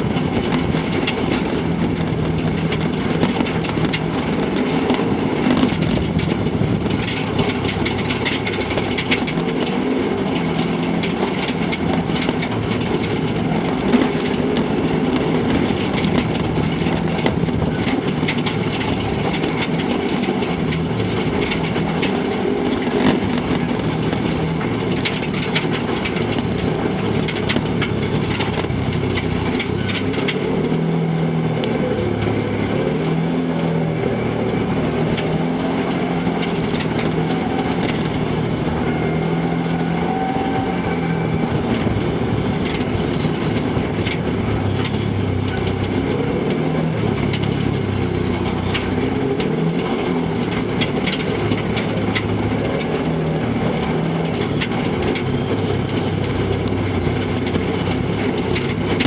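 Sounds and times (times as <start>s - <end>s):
knocks and rattles over rocks: 0.0s - 59.0s
off-road vehicle engine running: 0.0s - 59.0s.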